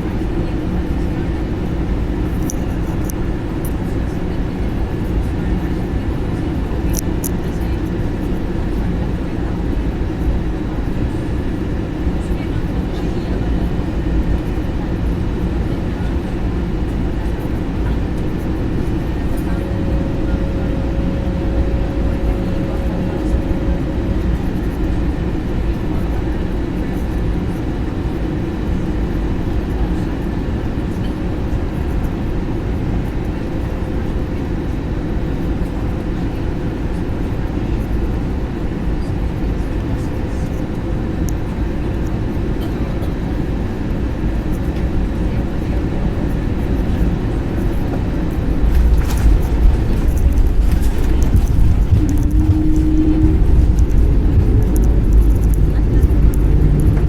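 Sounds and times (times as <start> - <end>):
airflow in aircraft cabin: 0.0 - 57.0
airliner engine noise: 0.0 - 57.0.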